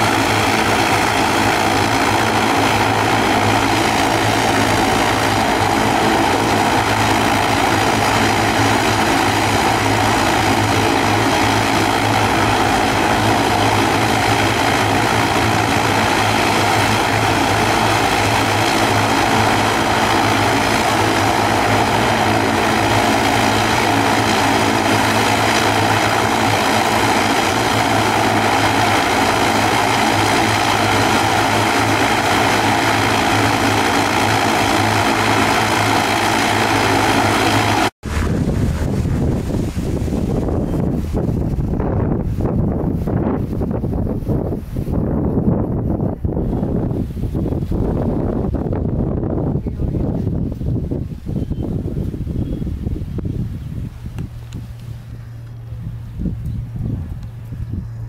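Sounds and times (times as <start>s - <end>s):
high engine whine: 0.0s - 58.0s
propeller engine drone: 0.0s - 58.0s.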